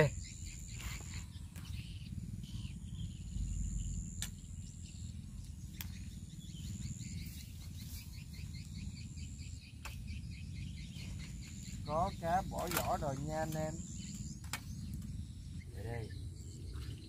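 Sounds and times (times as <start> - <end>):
insect buzzing: 0.0 - 15.6
low rumble: 0.0 - 17.0.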